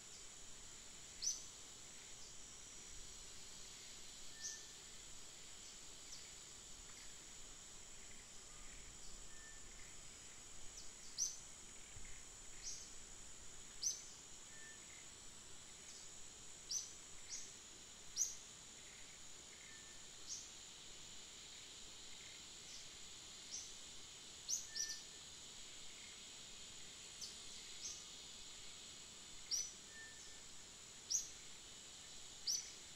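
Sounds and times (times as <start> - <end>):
high-pitched insect drone: 0.1 - 32.9.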